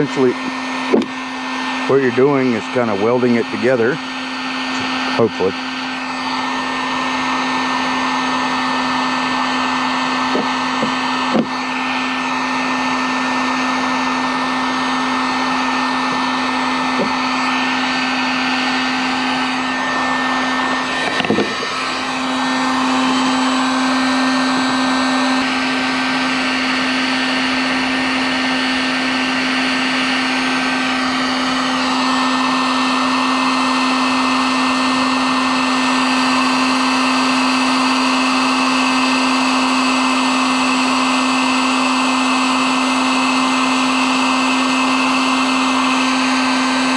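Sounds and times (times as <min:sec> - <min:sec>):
heat gun hum: 0:00.0 - 0:46.9.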